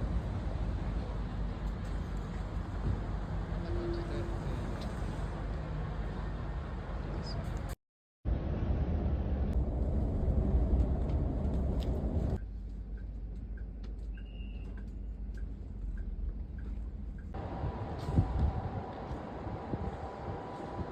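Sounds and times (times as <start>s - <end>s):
low rumble of moving vehicle: 0.0s - 20.9s.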